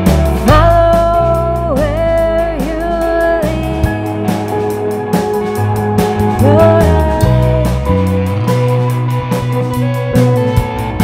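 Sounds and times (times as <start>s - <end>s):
bending melody notes: 0.0s - 11.0s
drums and cymbal ticks: 0.0s - 11.0s
electric bass notes: 0.0s - 11.0s.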